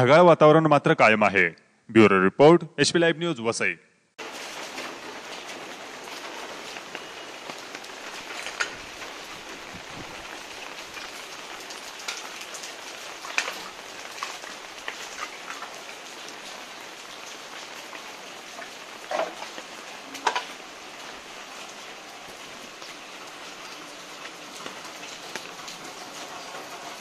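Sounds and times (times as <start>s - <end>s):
water falling on wet paving: 4.2s - 27.0s.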